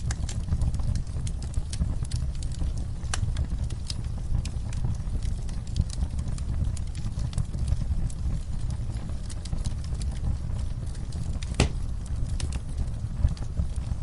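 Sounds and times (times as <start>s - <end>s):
fire snapping and popping: 0.0s - 14.0s
low rumble of flames: 0.0s - 14.0s.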